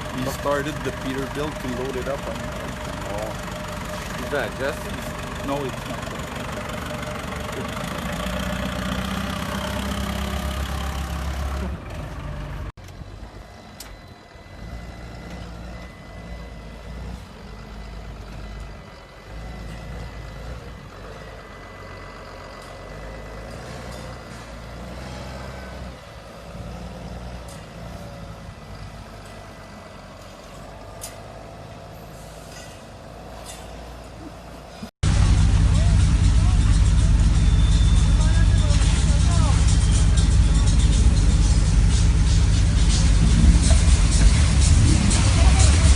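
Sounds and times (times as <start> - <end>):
diesel truck engine rumbling: 0.0 - 45.9.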